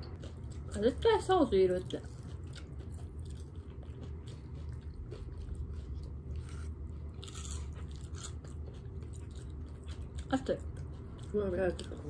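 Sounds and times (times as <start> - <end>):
crunchy food crunching: 0.0 - 12.0
steady low hum: 0.0 - 12.0.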